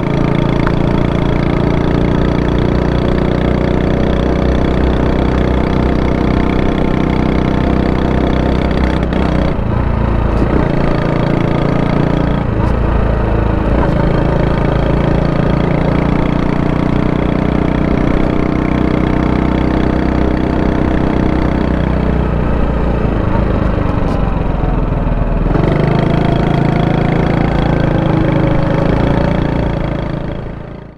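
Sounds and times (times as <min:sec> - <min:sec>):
small motorcycle engine running: 0:00.0 - 0:30.9.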